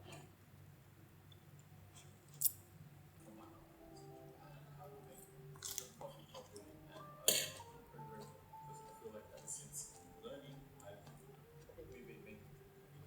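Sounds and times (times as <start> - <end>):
low steady hum: 0.0 - 13.0
quiet household sounds: 0.0 - 13.0.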